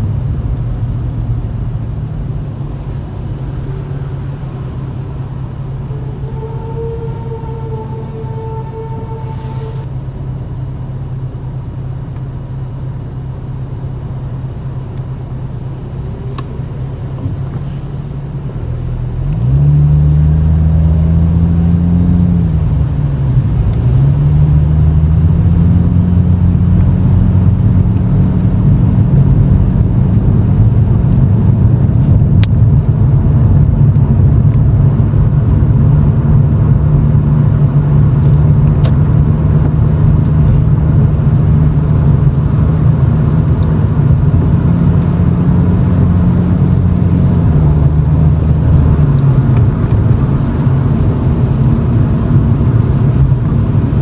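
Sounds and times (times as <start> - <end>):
car exhaust drone: 0.0 - 54.0.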